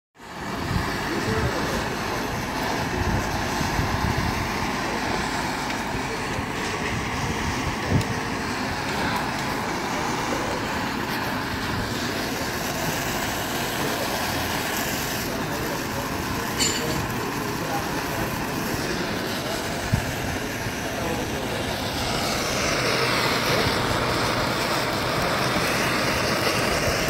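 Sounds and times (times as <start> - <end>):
gas torch hissing: 0.2 - 27.0.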